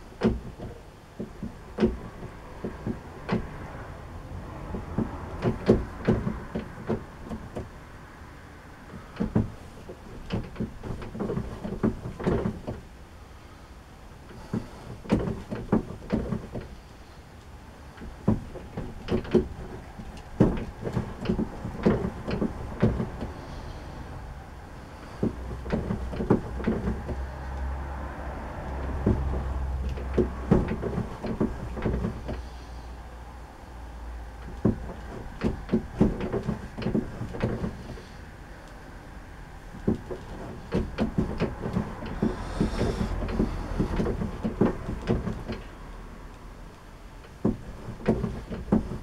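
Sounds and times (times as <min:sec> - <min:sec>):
broach clunking through metal: 0:00.0 - 0:08.0, 0:08.7 - 0:13.0, 0:14.1 - 0:17.0, 0:17.6 - 0:32.9, 0:34.2 - 0:38.4, 0:39.5 - 0:46.3, 0:47.0 - 0:49.0.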